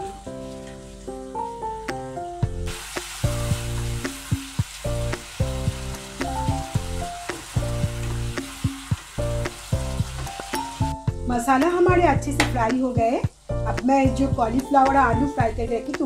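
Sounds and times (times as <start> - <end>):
paste sizzling in hot oil: 0.0 - 11.9, 12.5 - 15.1
background music melody: 0.0 - 16.0.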